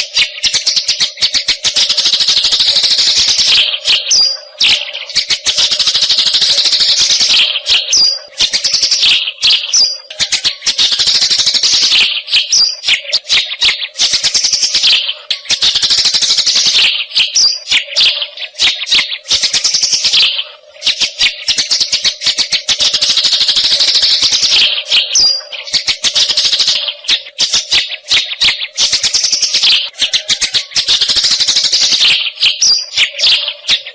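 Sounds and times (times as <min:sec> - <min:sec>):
sparrow chirping rapidly: 0:00.0 - 0:33.9.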